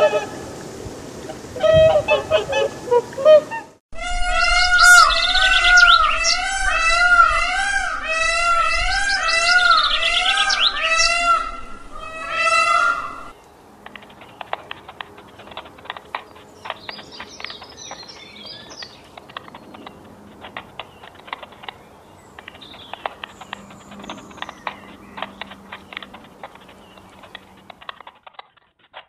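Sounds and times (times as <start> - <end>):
birds clicking: 4.6 - 7.4, 8.4 - 29.0.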